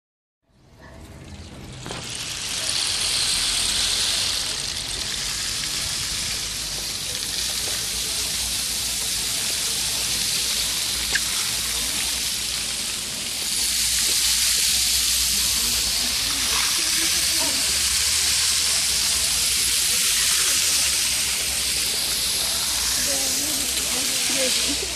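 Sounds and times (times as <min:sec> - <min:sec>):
rain sticks hissing: 0:01.7 - 0:24.9.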